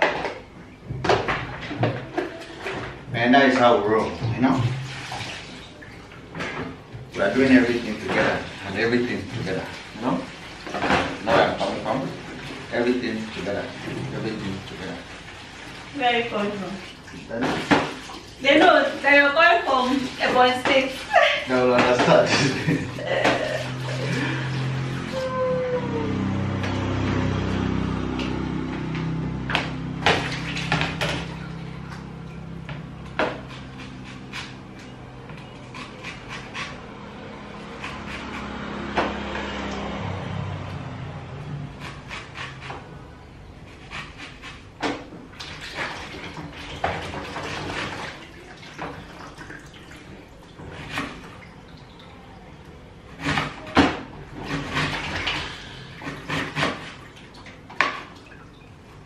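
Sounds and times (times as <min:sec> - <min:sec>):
water splashing at sink: 0:00.0 - 0:59.0.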